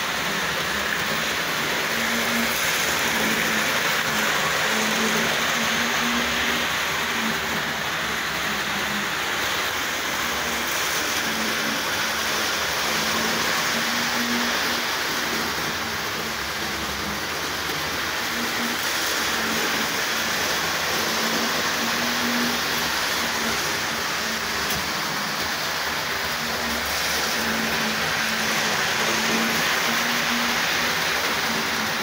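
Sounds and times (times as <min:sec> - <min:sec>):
model train wheels on track: 0:00.0 - 0:32.0.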